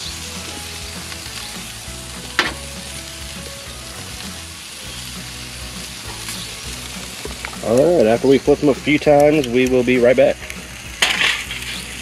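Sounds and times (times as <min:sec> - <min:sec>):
food sizzling on grill: 0:00.0 - 0:12.0.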